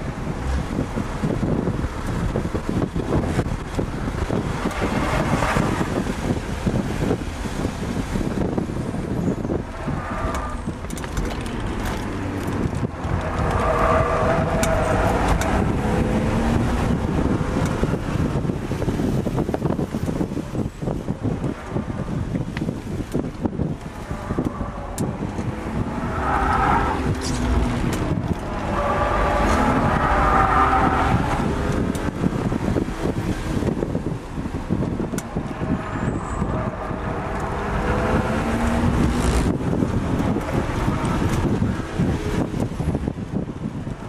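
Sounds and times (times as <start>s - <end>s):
car engine revving: 0.0s - 44.0s
road and wind noise: 0.0s - 44.0s.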